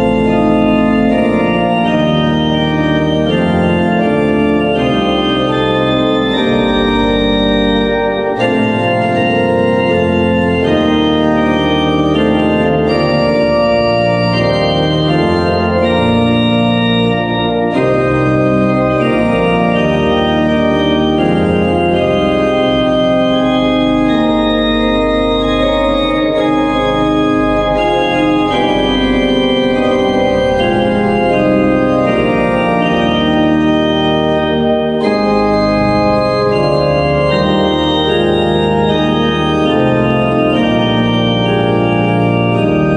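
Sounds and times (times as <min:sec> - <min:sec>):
organ chords: 0:00.0 - 0:42.9.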